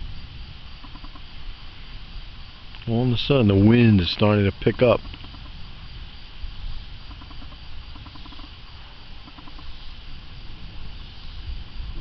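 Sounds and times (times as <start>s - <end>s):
wind gusts on microphone: 0.0s - 12.0s.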